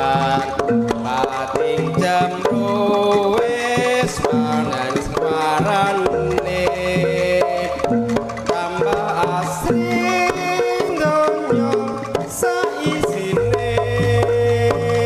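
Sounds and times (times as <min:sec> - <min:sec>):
hand drums beating quickly: 0:00.0 - 0:15.0
tuned melody with held notes: 0:00.0 - 0:15.0.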